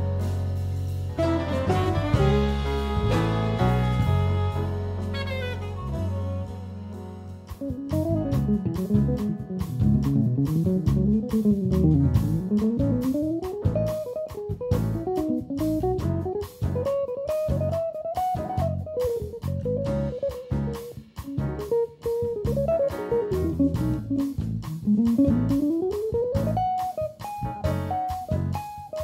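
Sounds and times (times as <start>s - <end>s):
bass: 0.0s - 29.0s
jazz guitar solo: 1.2s - 29.0s.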